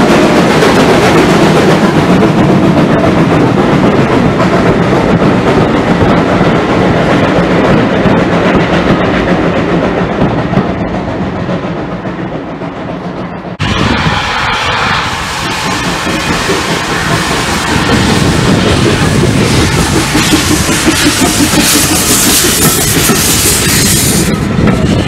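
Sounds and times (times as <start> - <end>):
steam train wheels clattering on rails: 0.0 - 25.0.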